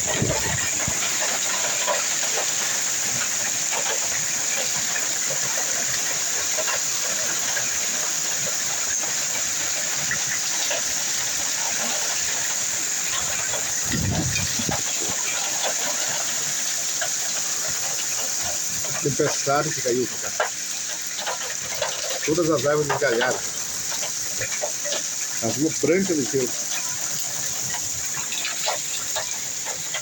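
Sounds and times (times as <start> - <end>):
heavy rain pouring: 0.0 - 30.0
raindrops pattering on surfaces: 0.0 - 30.0.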